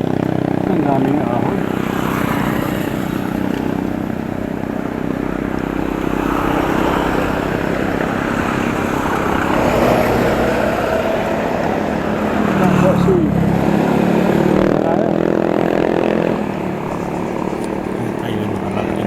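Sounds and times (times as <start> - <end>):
road rumble: 0.0 - 19.0
vehicle engine hum: 0.0 - 19.0.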